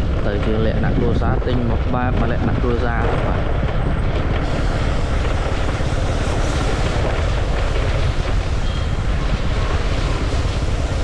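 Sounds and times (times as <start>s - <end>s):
low rumble: 0.0s - 11.0s
wind buffeting microphone: 0.0s - 11.0s.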